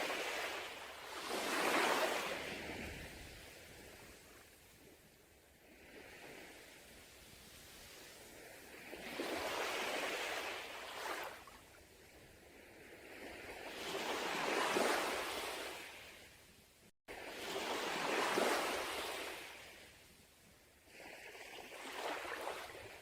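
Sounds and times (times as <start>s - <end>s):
sea waves on beach: 0.0s - 16.4s, 17.1s - 23.0s.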